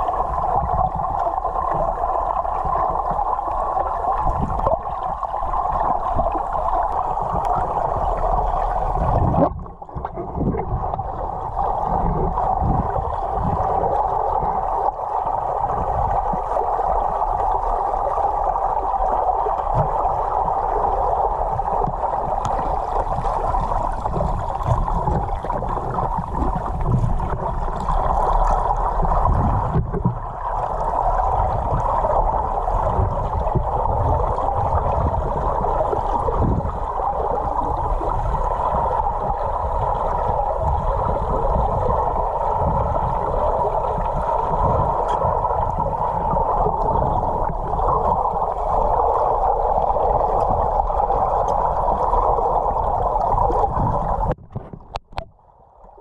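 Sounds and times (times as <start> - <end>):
muffled gurgling water: 0.0 - 56.0.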